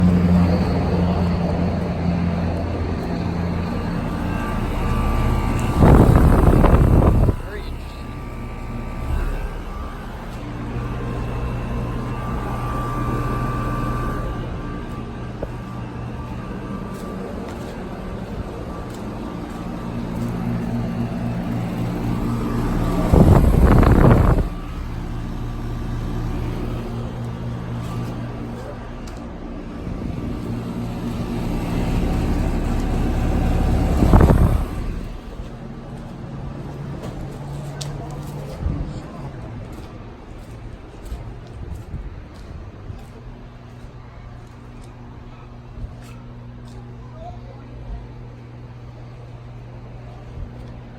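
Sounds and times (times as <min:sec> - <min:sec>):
fan rushing: 0:00.0 - 0:50.9
low compressor hum: 0:00.0 - 0:50.9.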